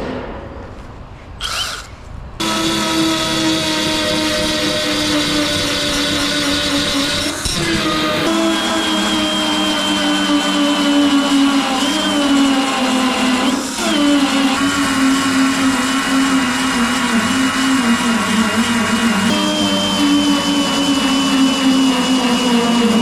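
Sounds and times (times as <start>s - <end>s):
power tool motor whining: 1.4s - 23.0s.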